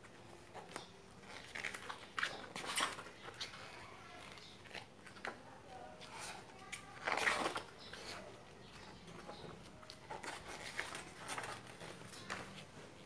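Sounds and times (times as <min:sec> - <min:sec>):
pages turning paper rustling: 0:00.4 - 0:05.4, 0:06.0 - 0:13.0.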